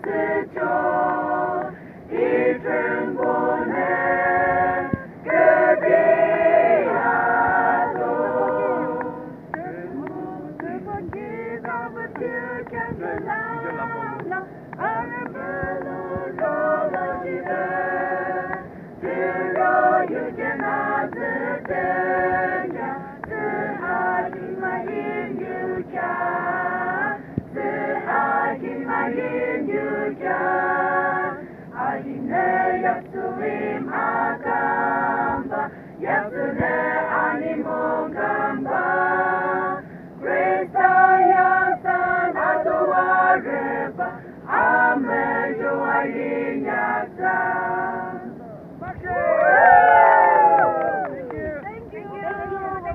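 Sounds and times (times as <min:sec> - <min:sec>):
group singing unaccompanied: 0:00.0 - 0:51.1.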